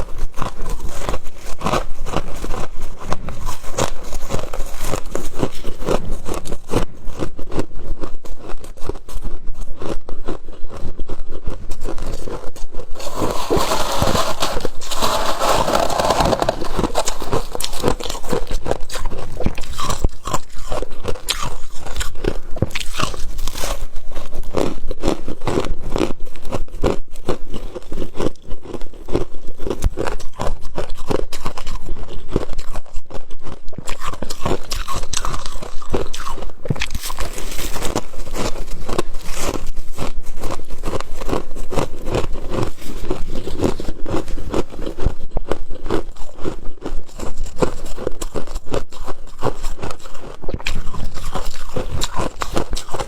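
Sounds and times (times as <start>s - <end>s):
frost being chewed crunching: 0.0s - 53.0s.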